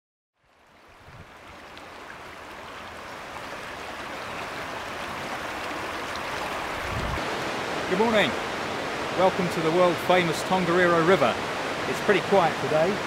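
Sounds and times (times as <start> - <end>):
river rushing over rapids: 0.6 - 13.0.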